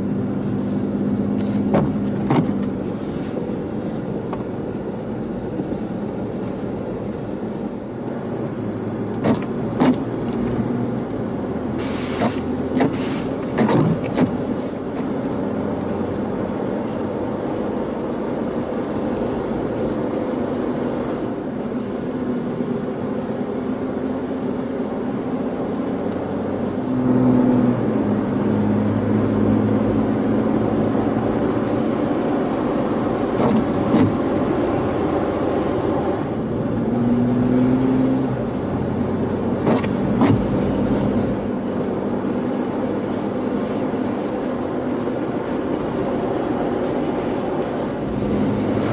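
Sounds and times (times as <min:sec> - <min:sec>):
car engine hum: 0:00.0 - 0:48.9
tyre and road noise: 0:00.0 - 0:48.9.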